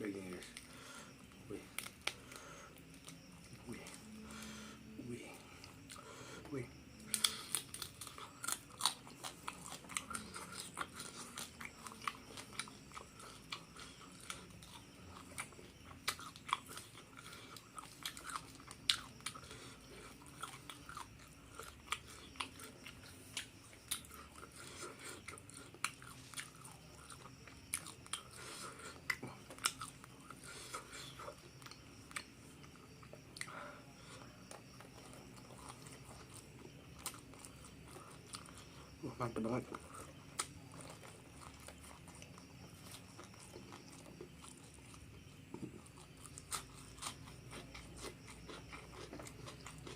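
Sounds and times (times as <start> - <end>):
crunchy chewing and biting: 0.0 - 49.9.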